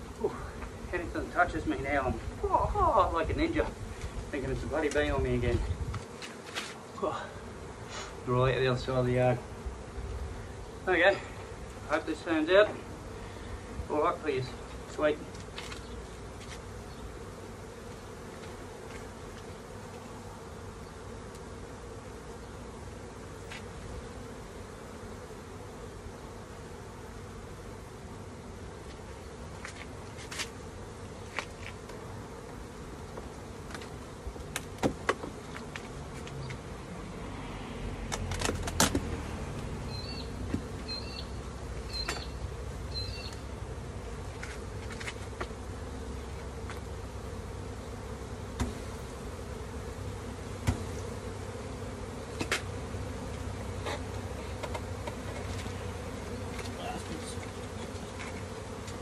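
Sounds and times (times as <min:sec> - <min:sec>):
bees buzzing: 0:00.0 - 0:59.0.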